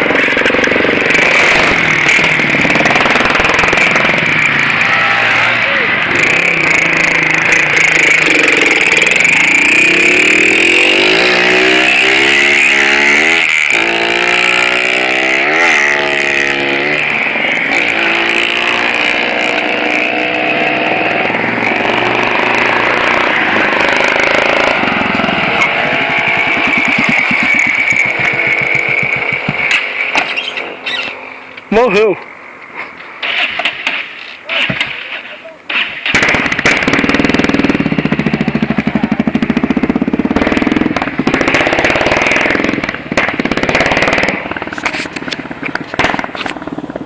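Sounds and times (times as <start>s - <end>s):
motorcycle engine revving: 0.0s - 34.2s, 35.7s - 47.0s.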